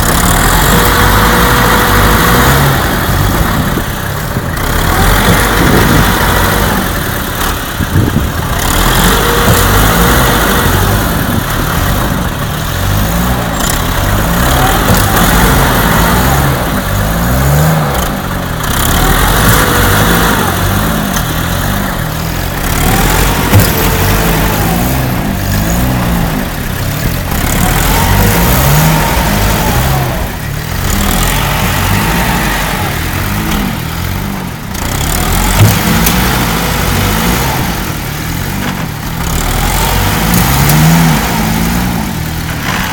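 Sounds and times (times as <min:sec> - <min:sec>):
vehicle engines revving: 0:00.0 - 0:42.9.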